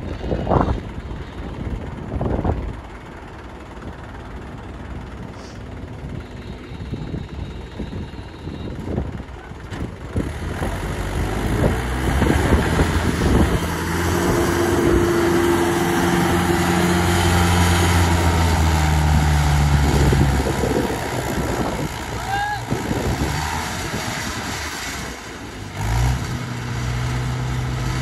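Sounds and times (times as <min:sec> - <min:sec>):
tractor diesel engine revving: 0:02.6 - 0:28.0.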